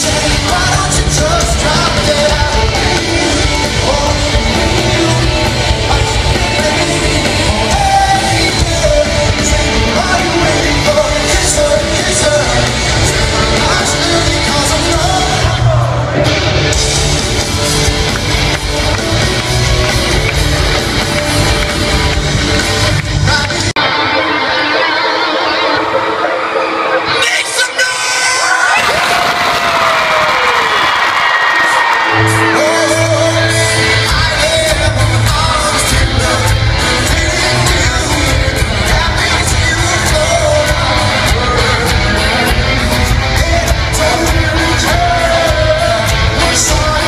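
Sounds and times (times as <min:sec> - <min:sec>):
person singing: 0:00.0 - 0:16.4, 0:18.6 - 0:28.8, 0:31.7 - 0:47.0
live rock band playing: 0:00.0 - 0:47.0.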